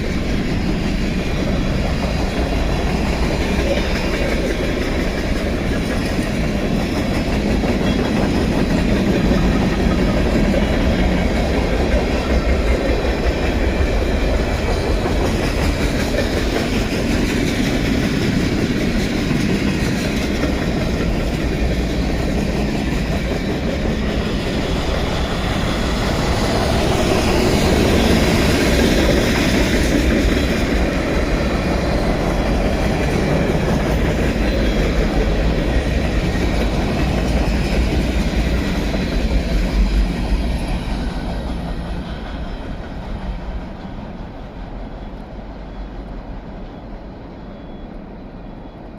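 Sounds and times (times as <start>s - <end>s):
train wheels rolling on rails: 0.0s - 48.9s.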